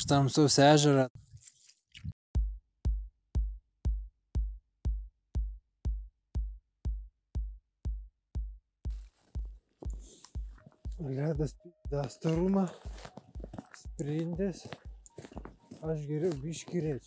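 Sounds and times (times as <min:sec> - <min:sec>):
drum machine kick drum: 0:02.4 - 0:16.0.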